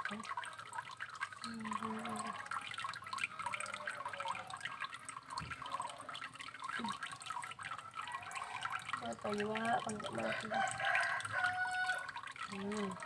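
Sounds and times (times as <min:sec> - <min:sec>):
water dripping into tank: 0:00.0 - 0:13.0.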